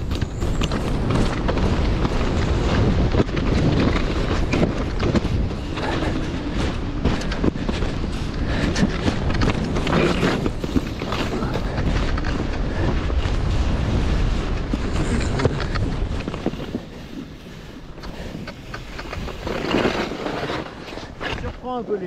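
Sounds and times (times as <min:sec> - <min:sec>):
skis scraping over snow: 0:00.0 - 0:22.0
wind buffeting microphone: 0:00.0 - 0:22.0.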